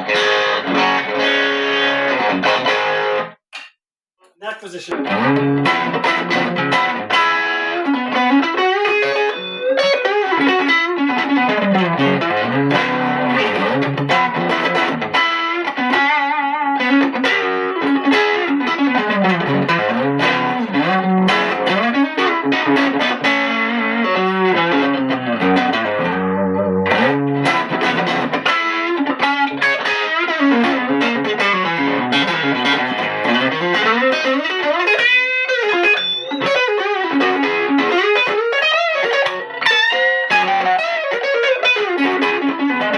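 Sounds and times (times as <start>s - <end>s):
distorted electric guitar: 0.0s - 3.7s, 4.4s - 42.9s.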